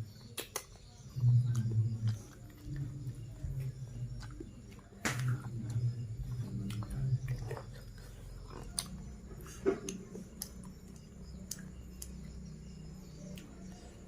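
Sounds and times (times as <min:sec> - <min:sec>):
person chewing food: 0:00.0 - 0:14.0
steady low hum: 0:00.0 - 0:14.0.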